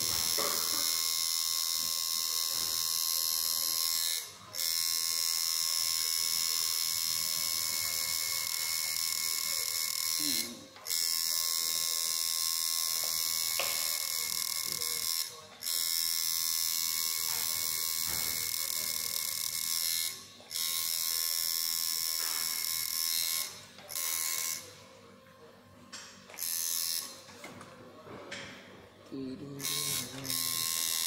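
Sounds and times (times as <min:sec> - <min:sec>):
tattoo machine buzzing: 0:00.0 - 0:25.0, 0:26.0 - 0:27.4, 0:29.4 - 0:31.0.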